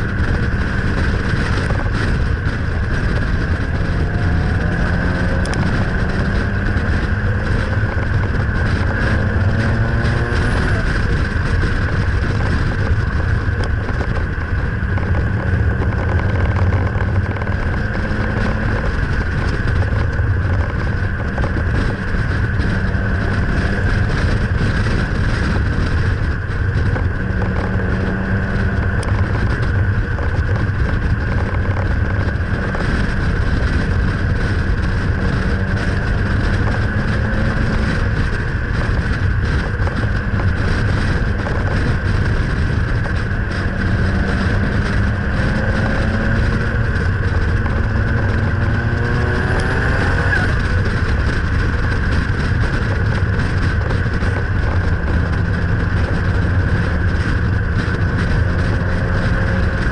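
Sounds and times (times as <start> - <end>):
car engine cruising: 0.0 - 59.9
heavy wind noise: 0.0 - 59.9
road noise: 0.0 - 59.9.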